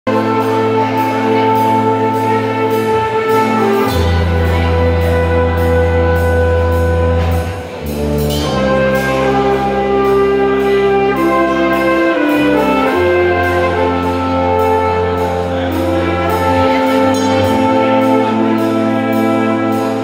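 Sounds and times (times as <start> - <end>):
brass band playing chords: 0.0 - 20.0.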